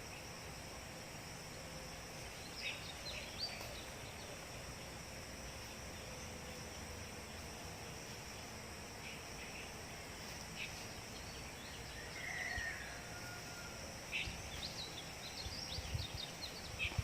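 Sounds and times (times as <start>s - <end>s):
insect drone: 0.0s - 17.0s
low hiss: 0.0s - 17.0s.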